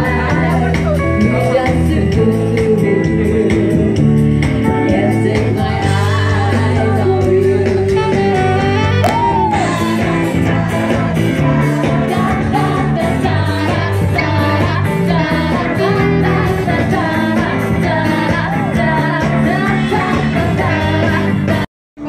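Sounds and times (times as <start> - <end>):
live pop-rock band with singer: 0.0 - 21.7.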